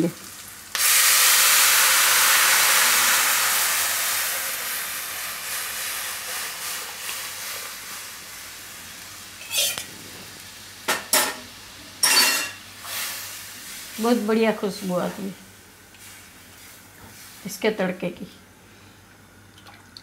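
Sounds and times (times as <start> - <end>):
batter hissing in hot oil: 0.0 - 11.8, 12.6 - 18.0.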